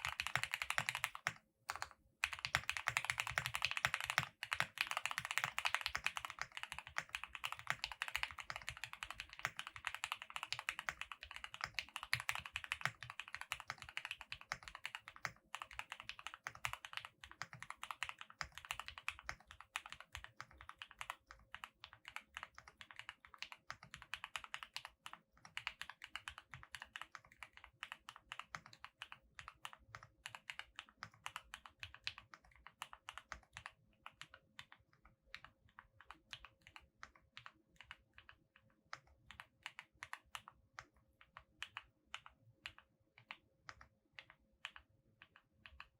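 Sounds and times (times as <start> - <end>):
mechanical keyboard typing: 0.0 - 45.9.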